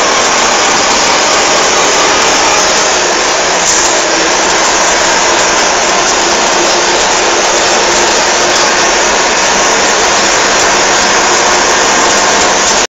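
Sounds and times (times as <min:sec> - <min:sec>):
truck diesel engine running: 0:00.0 - 0:12.9.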